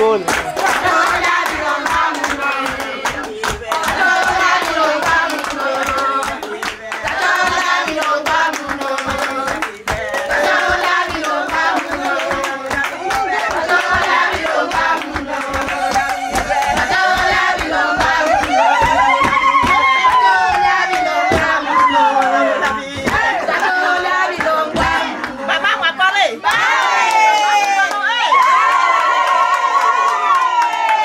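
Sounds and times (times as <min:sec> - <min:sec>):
rhythmic hand clapping: 0:00.0 - 0:31.0
voices singing together: 0:00.1 - 0:28.2.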